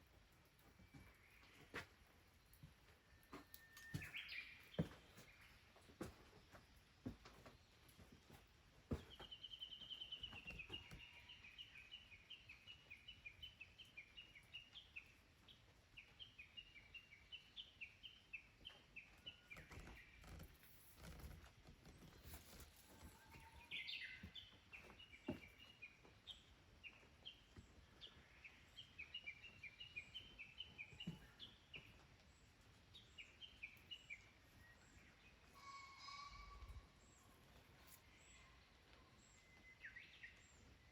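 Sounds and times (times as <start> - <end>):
bird chirping song: 0.0 - 40.9
faint outdoor background: 0.0 - 40.9.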